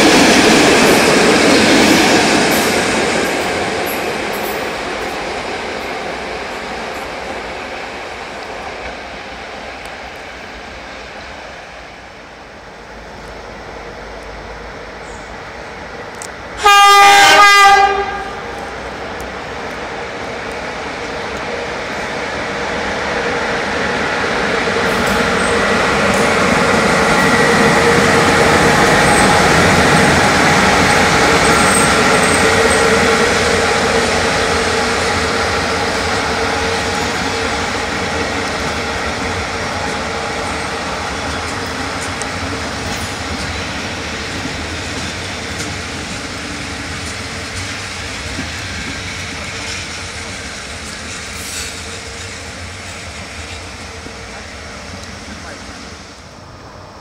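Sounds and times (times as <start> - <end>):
train hum: 0.0 - 57.0
train wheels rumbling on track: 0.0 - 57.0.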